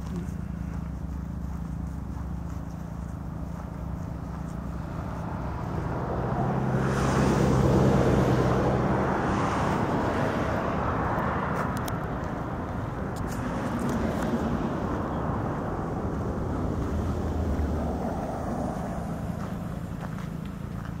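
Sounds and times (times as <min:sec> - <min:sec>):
vehicle passing: 0:00.0 - 0:21.0.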